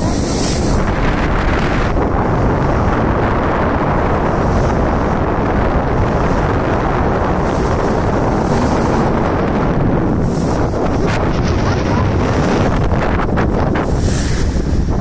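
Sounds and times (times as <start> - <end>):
water rushing along boat hull: 0.0 - 15.0
wind rush on microphone: 0.0 - 15.0.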